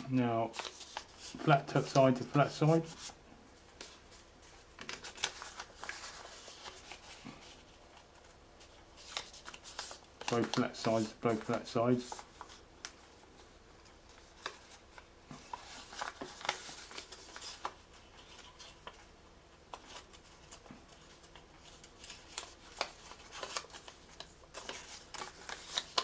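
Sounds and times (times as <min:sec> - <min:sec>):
paper folding and crinkling: 0:00.0 - 0:19.1, 0:19.7 - 0:26.0.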